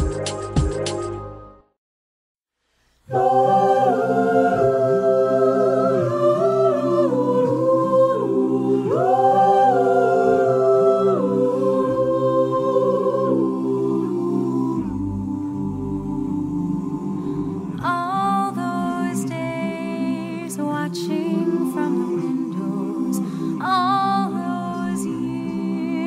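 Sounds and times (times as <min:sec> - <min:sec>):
vocal ensemble singing chords: 0:03.0 - 0:26.0.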